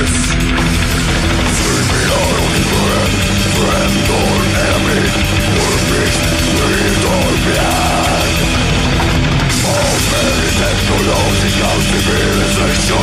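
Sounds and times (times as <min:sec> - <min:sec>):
heavy metal music: 0:00.0 - 0:13.0.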